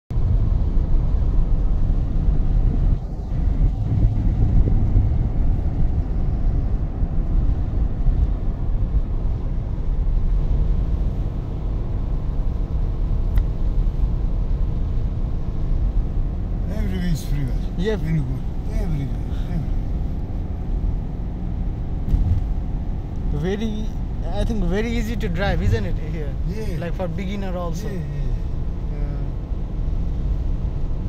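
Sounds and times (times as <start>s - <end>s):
car road rumble from inside: 0.1s - 31.0s.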